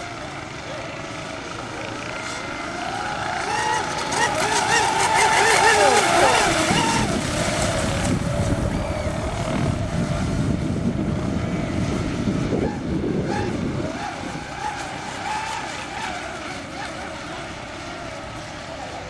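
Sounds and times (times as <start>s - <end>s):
model boat motors whining: 0.0s - 19.0s.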